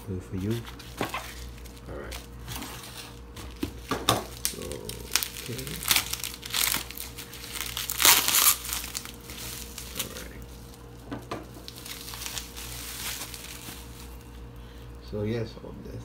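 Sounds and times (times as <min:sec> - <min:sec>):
bubble wrap crinkling: 0:00.3 - 0:15.0.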